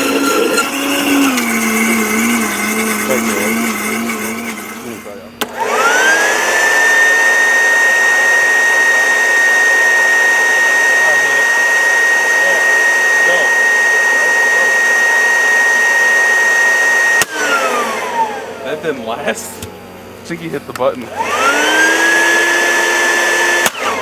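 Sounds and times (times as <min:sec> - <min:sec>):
vacuum cleaner motor whining: 0:00.0 - 0:24.0.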